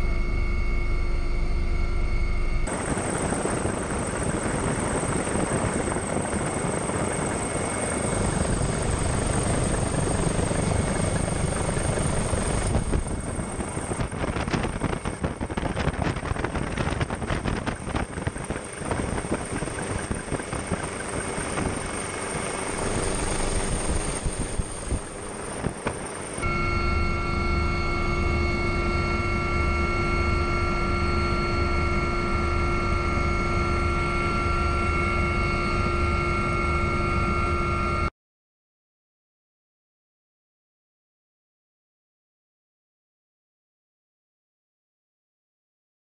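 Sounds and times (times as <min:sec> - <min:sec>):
helicopter rotor and engine: 0:00.0 - 0:38.1.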